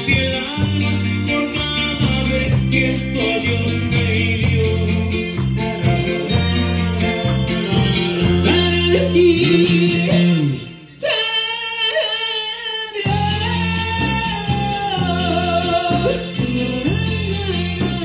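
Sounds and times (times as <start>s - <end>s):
live band with guitar and keyboard: 0.0s - 18.0s
man singing: 0.0s - 18.0s.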